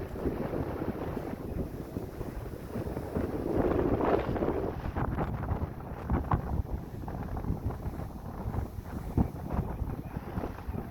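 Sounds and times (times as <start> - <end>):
blizzard wind buffeting microphone: 0.0 - 10.9.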